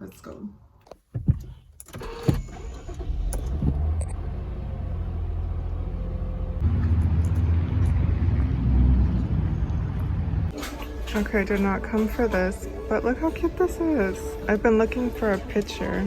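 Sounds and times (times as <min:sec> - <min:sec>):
car engine and road noise: 0:01.3 - 0:16.0.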